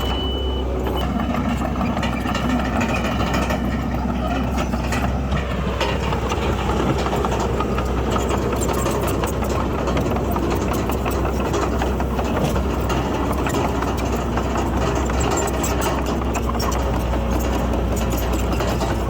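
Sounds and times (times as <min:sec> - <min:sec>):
bulldozer diesel engine running: 0:00.0 - 0:19.0
rapid clatter: 0:01.0 - 0:19.0.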